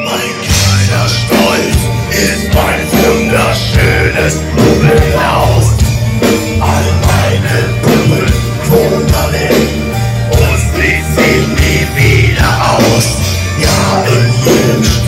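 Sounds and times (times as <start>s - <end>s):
metal band playing live: 0.0s - 15.0s.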